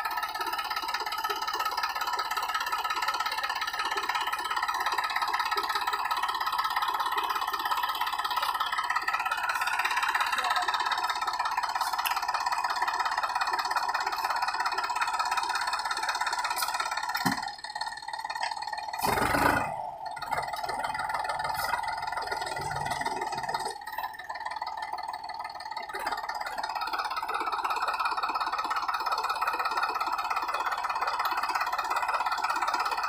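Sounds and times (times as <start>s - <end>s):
tractor diesel engine straining: 0.0s - 33.0s.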